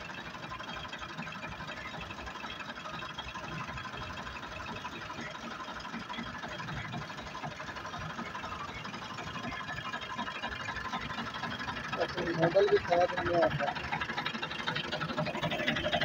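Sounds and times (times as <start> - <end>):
tractor engine idling: 0.0 - 16.0.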